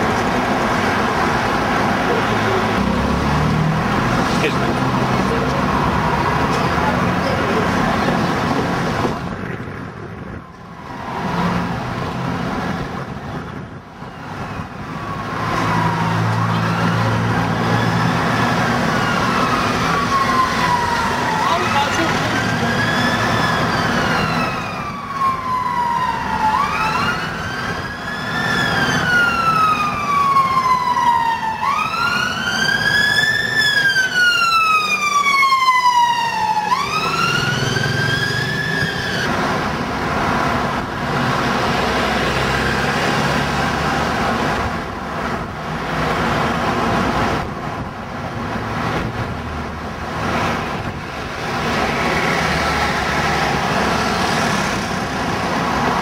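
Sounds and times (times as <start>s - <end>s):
emergency siren wailing: 0.0s - 9.0s, 10.2s - 56.0s
road traffic: 0.0s - 56.0s.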